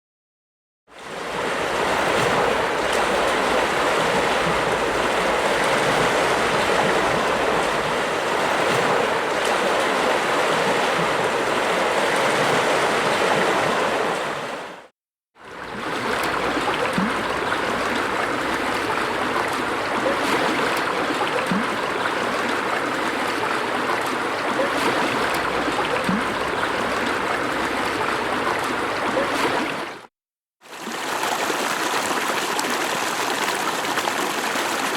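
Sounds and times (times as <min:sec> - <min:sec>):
stream water babbling: 0:01.0 - 0:34.9
water gurgles: 0:01.0 - 0:34.9.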